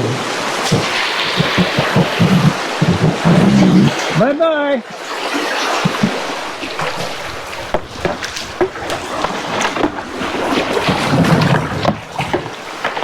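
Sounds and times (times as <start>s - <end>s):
canoe knocking and splashing: 0.0s - 13.0s
water rushing over rocks: 0.0s - 13.0s.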